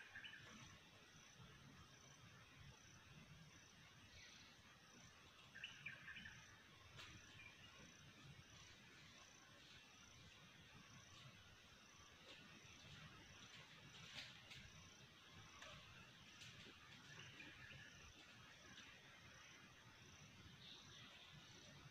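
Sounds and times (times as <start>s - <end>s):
insect chirping: 0.0s - 21.9s.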